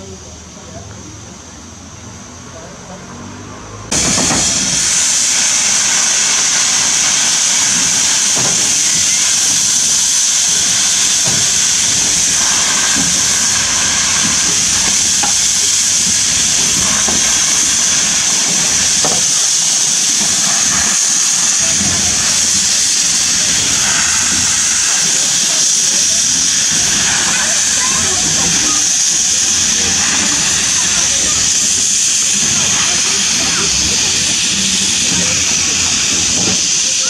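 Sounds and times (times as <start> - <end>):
steam locomotive hissing steam: 0.0 - 37.0.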